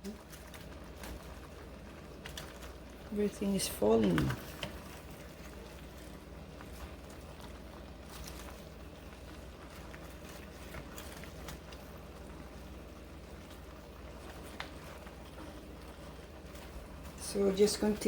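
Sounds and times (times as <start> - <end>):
steady low hum: 0.0 - 18.0
vegetables cooking in a pan: 0.0 - 18.0.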